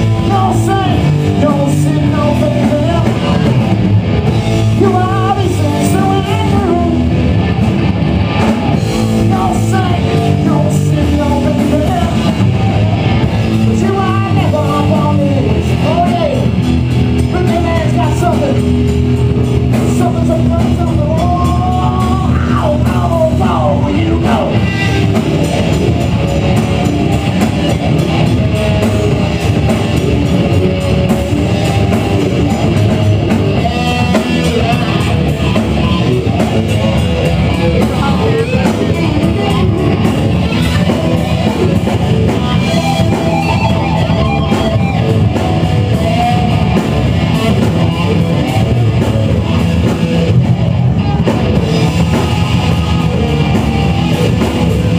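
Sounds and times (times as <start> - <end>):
drum kit: 0.0 - 54.9
electric guitar: 0.0 - 54.9.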